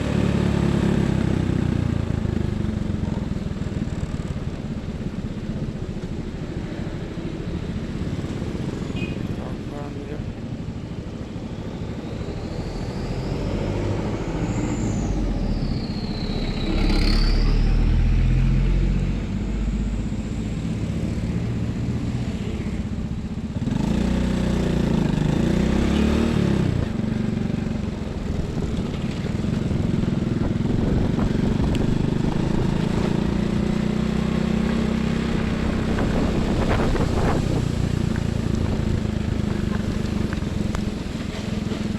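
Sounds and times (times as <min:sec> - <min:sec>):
trucks and buses driving past: 0:00.0 - 0:41.9.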